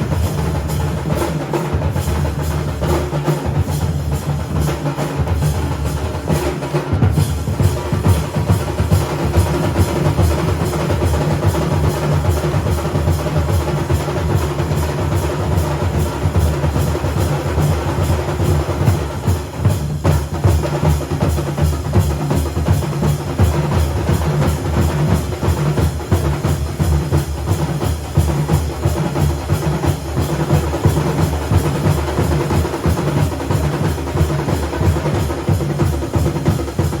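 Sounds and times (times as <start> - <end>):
festival drumming: 0.0 - 37.0.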